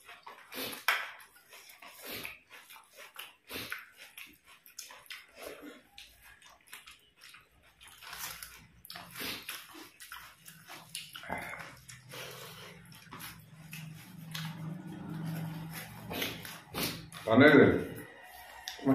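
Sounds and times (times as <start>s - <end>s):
wet chewing and mouth smacks: 0.0s - 17.3s, 17.9s - 18.9s
fingers squishing food: 0.0s - 18.9s.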